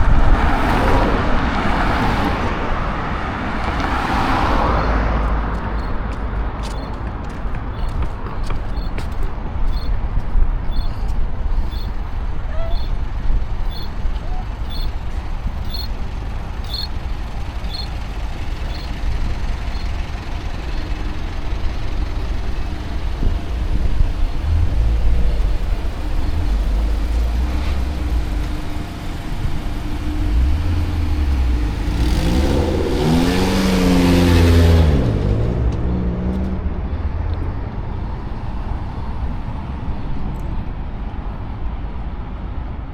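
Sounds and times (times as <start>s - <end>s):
large vehicle passing: 0.0s - 41.8s
city traffic rumble: 0.0s - 42.9s.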